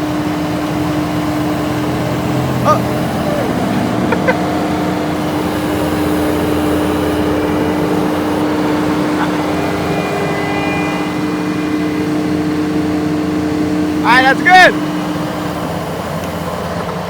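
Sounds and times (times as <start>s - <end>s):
diesel engine running: 0.0s - 17.0s
steady whine: 0.0s - 17.0s.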